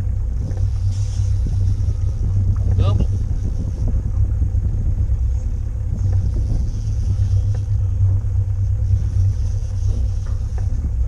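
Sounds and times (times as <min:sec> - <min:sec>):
boat low rumble: 0:00.0 - 0:11.0.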